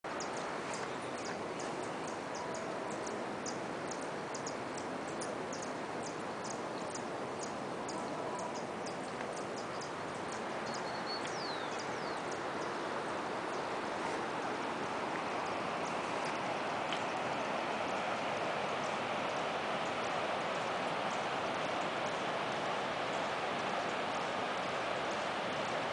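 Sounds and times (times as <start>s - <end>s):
river rushing: 0.1s - 25.9s.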